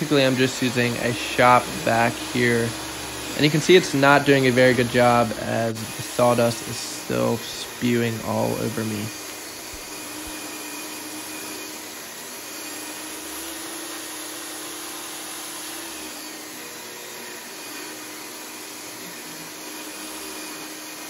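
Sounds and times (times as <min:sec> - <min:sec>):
shop vacuum running: 0:00.0 - 0:21.0
table saw cutting wood: 0:00.0 - 0:21.0.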